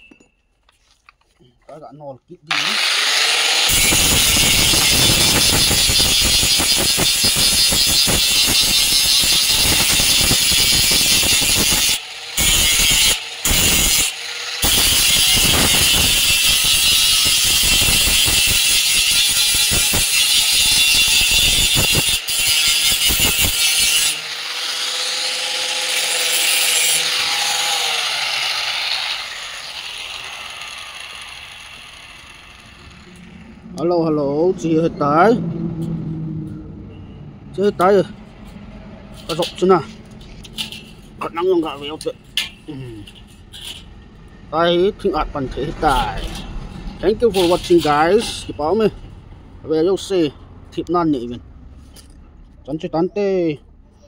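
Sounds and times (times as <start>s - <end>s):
angle grinder grinding steel: 2.5s - 51.4s.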